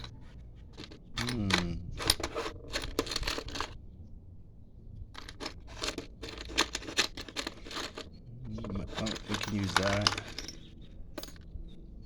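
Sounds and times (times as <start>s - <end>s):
rummaging through small hardware: 0.0s - 3.8s, 5.2s - 11.5s.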